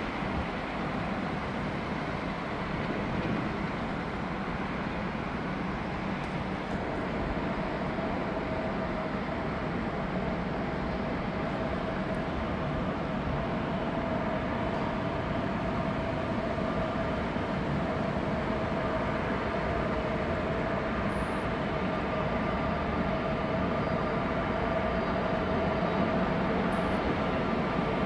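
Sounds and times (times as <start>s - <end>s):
jet engines idling with whine: 0.0s - 28.0s.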